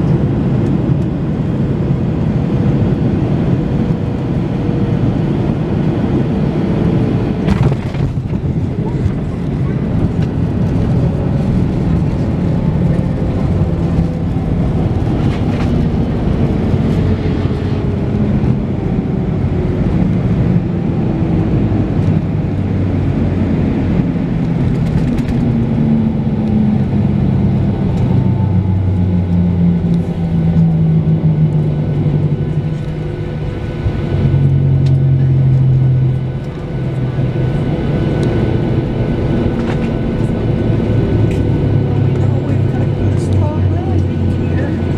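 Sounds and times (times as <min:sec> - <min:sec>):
jet engines winding down: 0:00.0 - 0:44.9.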